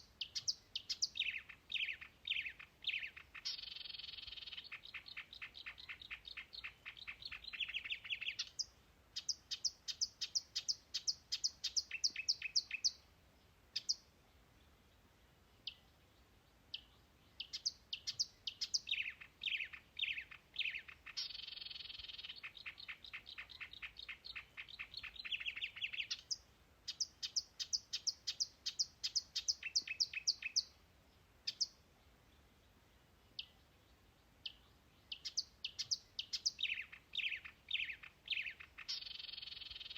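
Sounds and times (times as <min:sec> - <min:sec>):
birdsong with buzzy trill: 0:00.0 - 0:13.0, 0:13.7 - 0:30.8, 0:31.4 - 0:39.9.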